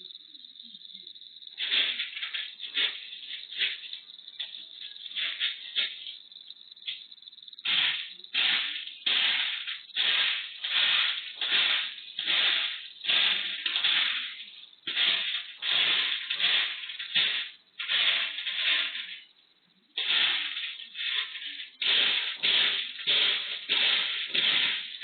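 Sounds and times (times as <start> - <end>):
cat scratching in litter: 1.6 - 6.2, 7.6 - 19.3, 19.9 - 25.0.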